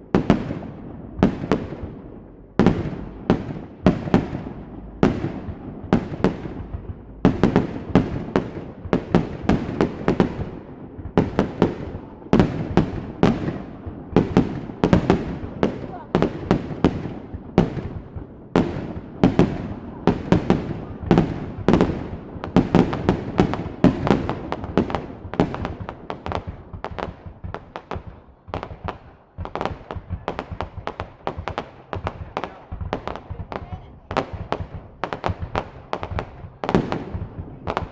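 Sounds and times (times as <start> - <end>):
fireworks bangs with echo: 0.0 - 37.9.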